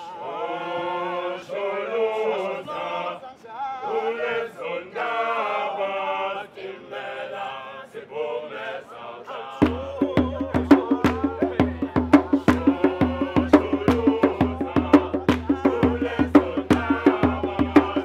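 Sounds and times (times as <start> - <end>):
male a cappella group singing: 0.0 - 18.0.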